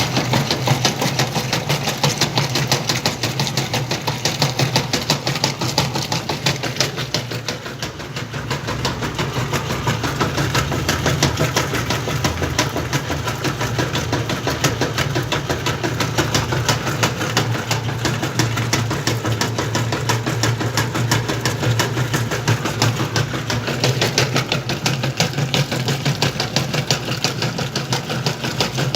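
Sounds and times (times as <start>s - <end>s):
washing machine motor hum: 0.0s - 28.9s.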